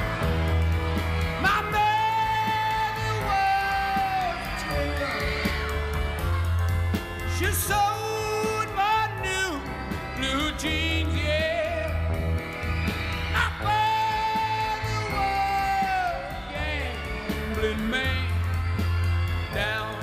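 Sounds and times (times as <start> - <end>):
rock band playing: 0.0 - 20.0
man singing: 1.4 - 5.8, 7.3 - 12.2, 13.3 - 20.0.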